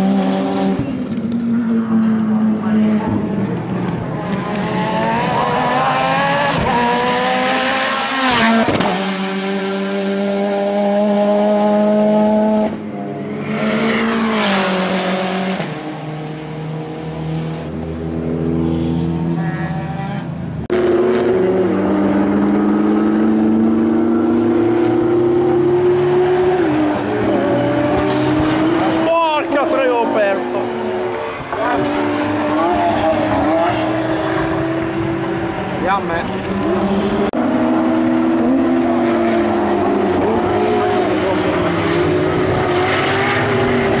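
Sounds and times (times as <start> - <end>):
race car engines accelerating: 0.0 - 44.0
race cars passing at speed: 0.0 - 44.0.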